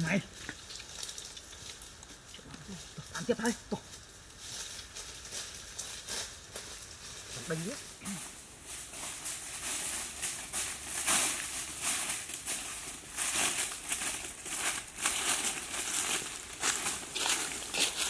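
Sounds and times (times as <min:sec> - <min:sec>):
footsteps crunching through dry leaves: 0:00.0 - 0:18.0.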